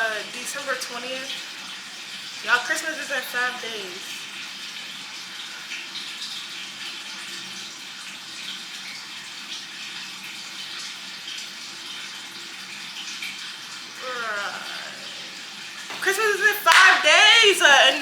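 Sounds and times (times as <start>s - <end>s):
aquarium filter water trickling: 0.0s - 18.0s.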